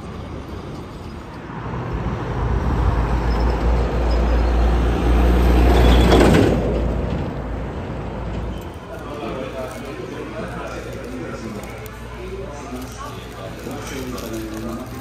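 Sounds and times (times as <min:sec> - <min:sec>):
heavy vehicle rumbling: 0:00.0 - 0:15.0.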